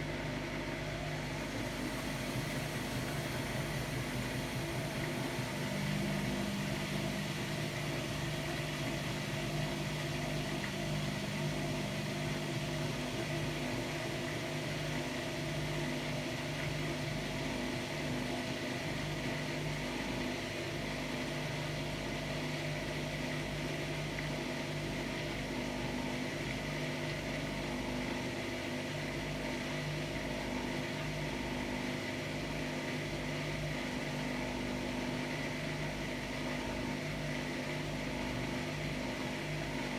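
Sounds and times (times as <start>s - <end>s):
washer-dryer motor humming: 0.0s - 39.9s.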